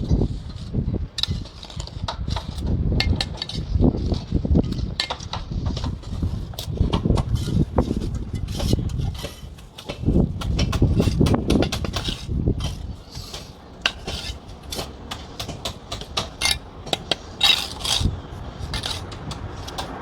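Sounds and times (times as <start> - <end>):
trowel clinking on concrete blocks: 1.2 - 20.0.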